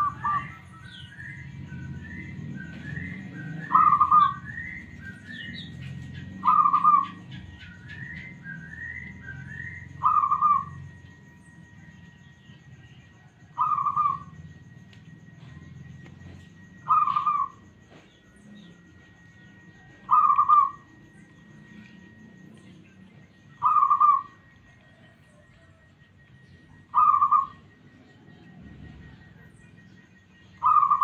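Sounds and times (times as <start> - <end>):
dove cooing: 0.0 - 31.0
rising bird chirps: 0.0 - 31.0.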